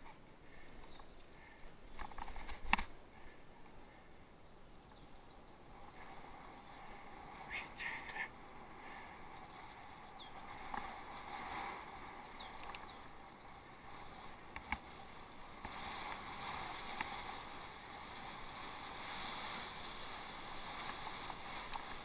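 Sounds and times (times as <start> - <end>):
bicycle clicks and rattles: 0.0 - 4.0, 4.9 - 22.0
tyre and wind hiss: 0.0 - 22.0.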